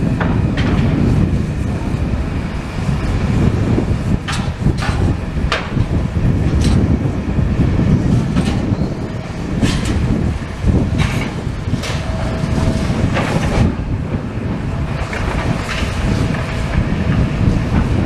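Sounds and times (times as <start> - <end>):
demolition machinery rumbling: 0.0 - 18.0.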